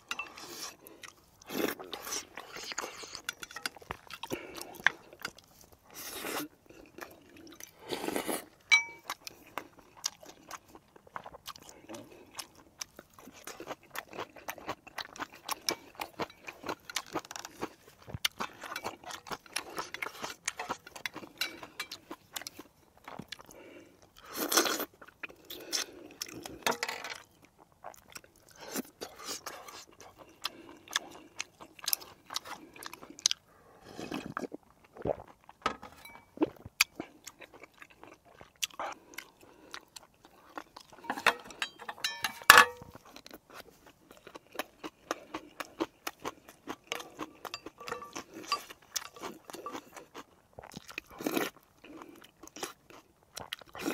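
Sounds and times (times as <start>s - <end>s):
man chewing and crunching food: 0.0s - 53.9s.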